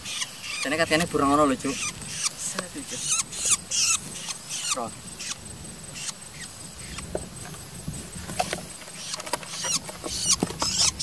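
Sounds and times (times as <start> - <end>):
bird squeaky calls: 0.0 - 7.1, 8.4 - 11.0.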